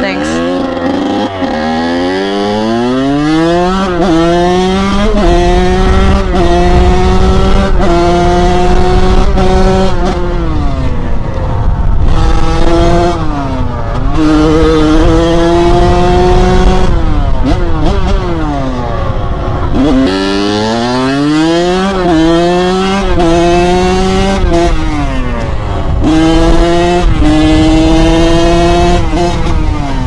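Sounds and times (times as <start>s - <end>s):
dirt bike engine accelerating: 0.0s - 30.0s.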